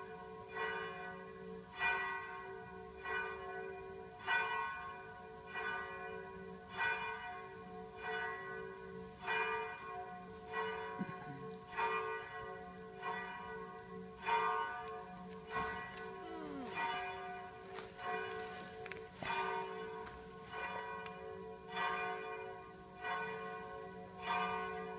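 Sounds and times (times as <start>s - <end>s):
church bell tolling: 0.0s - 24.9s.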